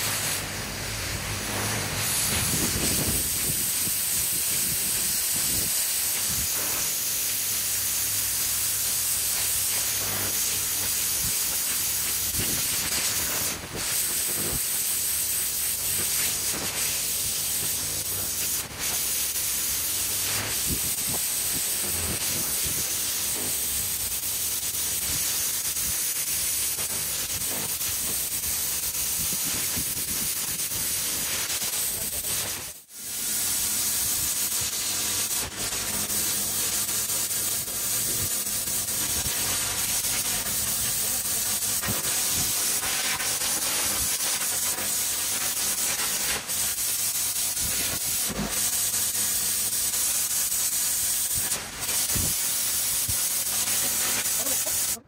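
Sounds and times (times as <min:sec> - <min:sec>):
pressure washer spraying concrete: 0:00.0 - 0:55.0.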